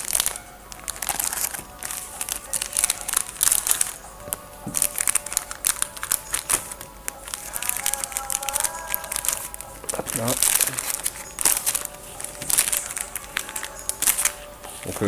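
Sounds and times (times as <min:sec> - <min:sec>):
plastic card sleeves crinkling: 0:00.0 - 0:15.0.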